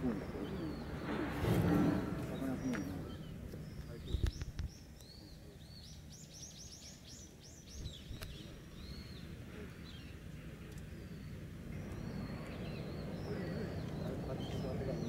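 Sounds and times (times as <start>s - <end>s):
low background rumble: 0.0s - 15.0s
small birds chirping: 0.0s - 15.0s.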